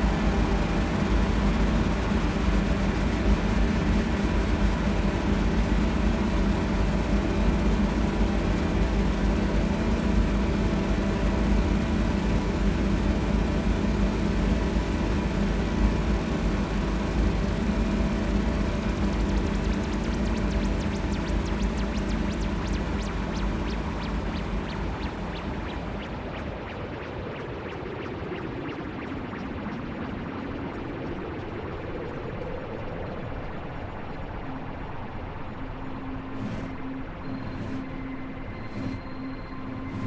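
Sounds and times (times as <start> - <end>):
synthesizer noise drone: 0.0 - 40.0.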